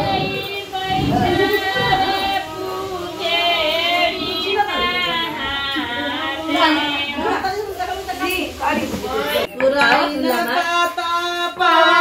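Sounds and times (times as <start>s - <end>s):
people talking: 0.0s - 12.0s
women singing together: 0.0s - 12.0s.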